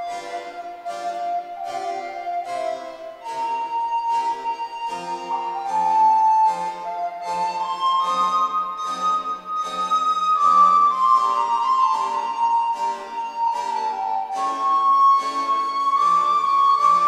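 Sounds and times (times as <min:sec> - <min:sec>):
keyboard chords: 0:00.0 - 0:17.0
recorder playing slow melody: 0:00.0 - 0:17.0.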